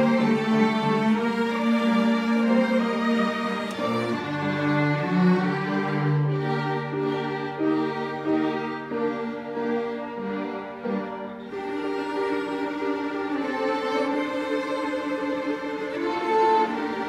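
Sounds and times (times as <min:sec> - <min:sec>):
violins bowing sustained notes: 0:00.0 - 0:17.0.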